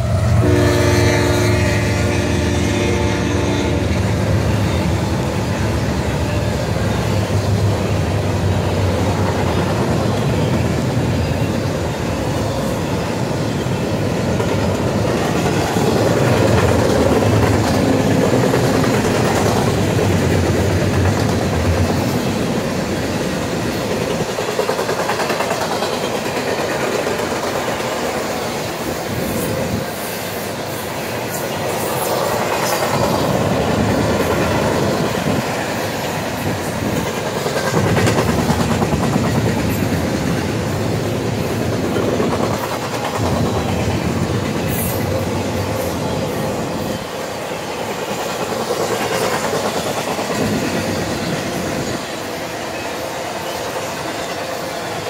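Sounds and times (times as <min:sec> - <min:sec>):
train wheels clattering on rail: 0:00.0 - 0:55.0.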